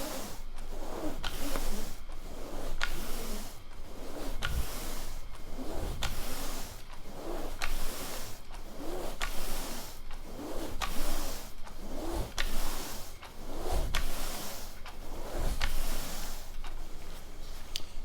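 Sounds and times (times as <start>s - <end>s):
brush scrubbing rug: 0.0s - 17.7s.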